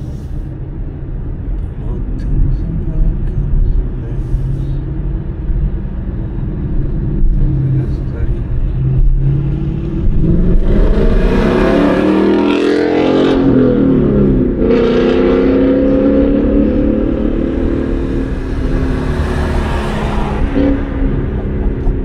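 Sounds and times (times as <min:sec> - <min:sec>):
car engine accelerating: 0:01.6 - 0:22.0.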